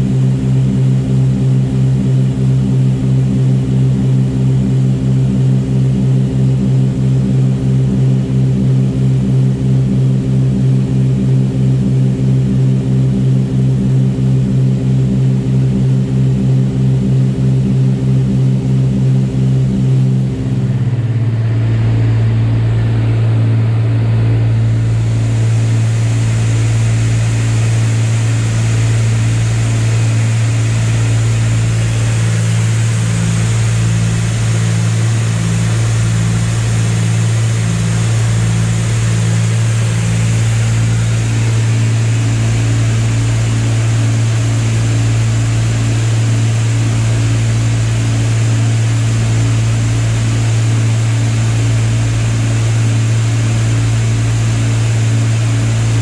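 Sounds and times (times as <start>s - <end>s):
aircraft engines droning in cabin: 0.0s - 56.0s.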